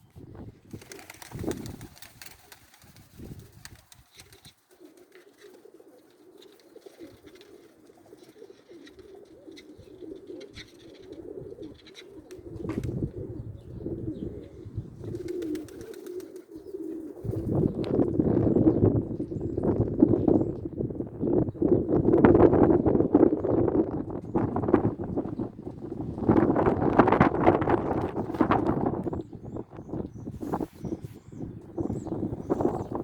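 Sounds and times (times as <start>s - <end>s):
wind rumbling on microphone: 0.0s - 4.5s, 8.8s - 33.0s
pigeons cooing: 0.7s - 33.0s.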